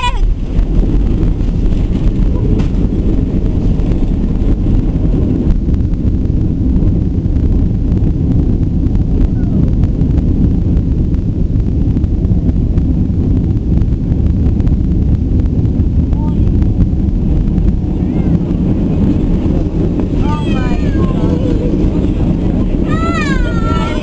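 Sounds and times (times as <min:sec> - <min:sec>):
aircraft cabin rumble on landing: 0:00.0 - 0:24.0.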